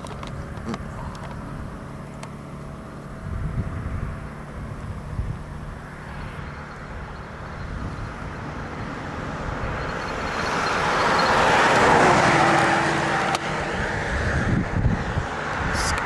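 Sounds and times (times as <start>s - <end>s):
vehicle tyre noise passing: 0.0s - 16.0s.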